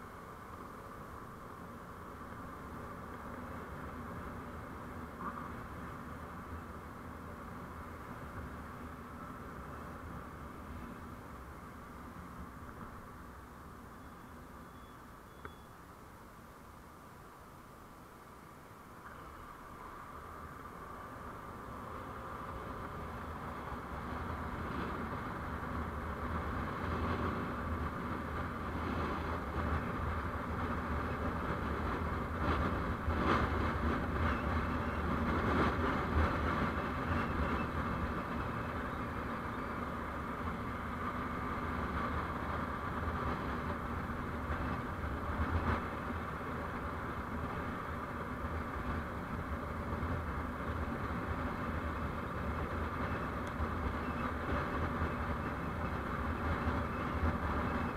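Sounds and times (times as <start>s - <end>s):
vehicle road and engine noise: 0.0s - 57.9s.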